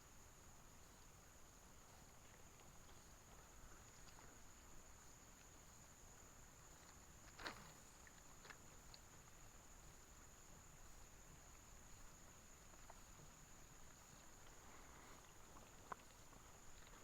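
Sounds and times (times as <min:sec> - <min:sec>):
faint high-pitched whine: 0:00.0 - 0:17.0
faint ticks: 0:00.8 - 0:17.0.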